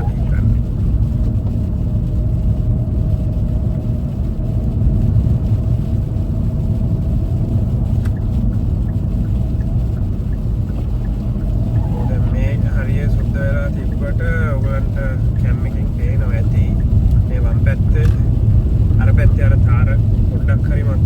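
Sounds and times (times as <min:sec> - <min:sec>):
car engine and tyres on snow: 0:00.0 - 0:21.0.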